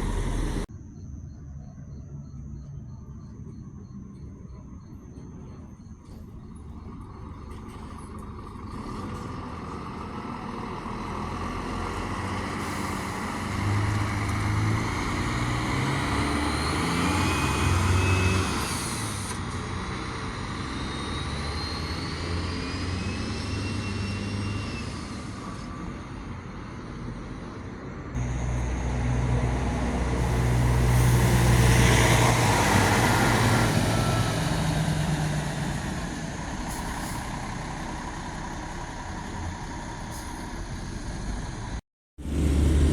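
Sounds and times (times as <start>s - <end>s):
diesel buses passing: 0.0s - 1.0s, 2.1s - 42.9s
bus engine whine: 0.0s - 42.9s.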